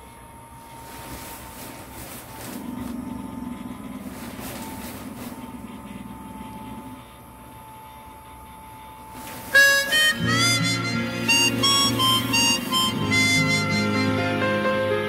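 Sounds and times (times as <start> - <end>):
blower fan whirring: 0.0 - 15.0.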